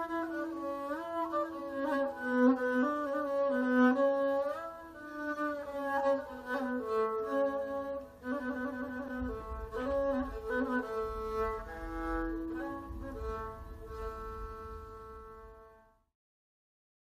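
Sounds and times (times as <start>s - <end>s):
bowed string instrument melody: 0.0s - 16.1s.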